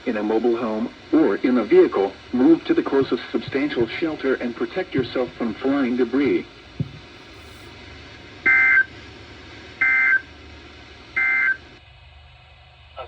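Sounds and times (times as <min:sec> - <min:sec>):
faint broadcast hiss: 0:00.0 - 0:11.8.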